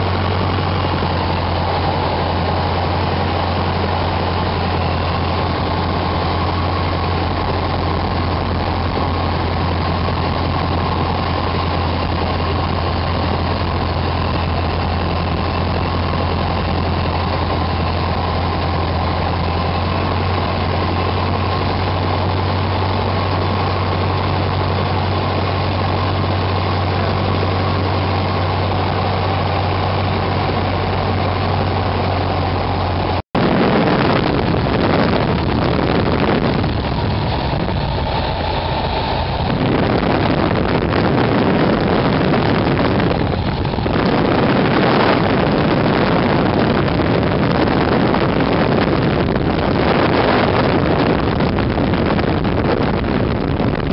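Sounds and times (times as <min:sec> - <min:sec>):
aircraft piston engine droning: 0:00.0 - 0:53.9
rush of wind: 0:00.0 - 0:53.9.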